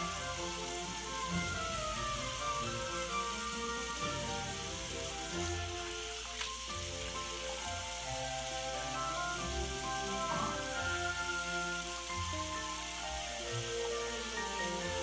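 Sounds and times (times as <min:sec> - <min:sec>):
background music sustained notes: 0:00.0 - 0:15.0
water running from a tap: 0:00.0 - 0:15.0.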